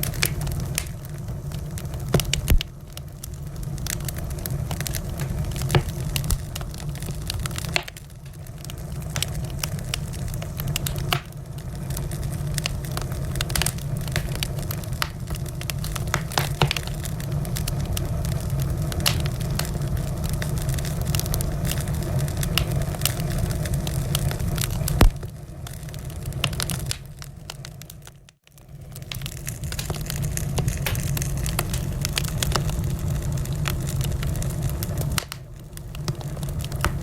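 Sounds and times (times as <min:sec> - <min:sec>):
low rumble of flames: 0:00.0 - 0:37.0
wood fire crackling: 0:00.0 - 0:37.0.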